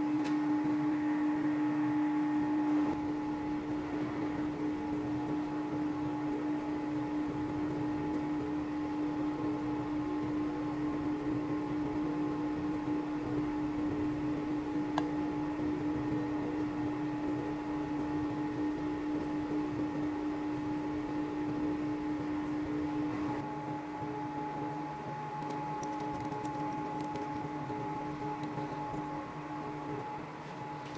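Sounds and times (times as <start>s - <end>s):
electric machine hum: 0.0s - 30.9s.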